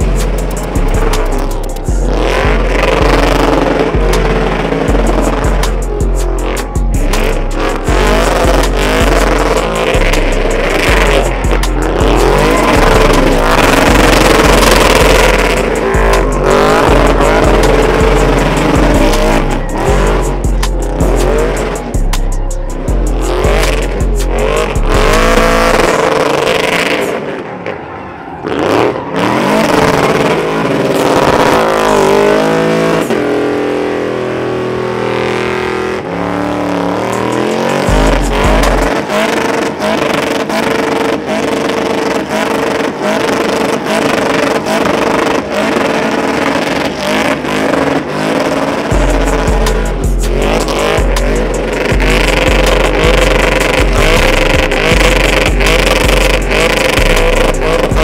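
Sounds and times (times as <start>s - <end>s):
music with heavy bass beat: 0.0s - 27.3s, 28.7s - 58.0s
truck engine revving: 0.0s - 58.0s.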